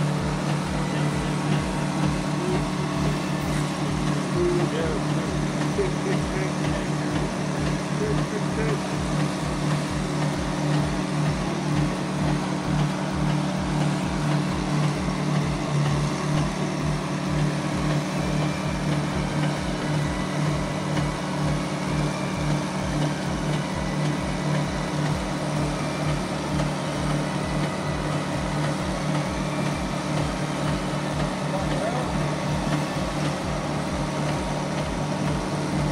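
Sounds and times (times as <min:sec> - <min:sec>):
concrete pump engine droning: 0:00.0 - 0:35.9
low pulse of pumping strokes: 0:00.0 - 0:35.9.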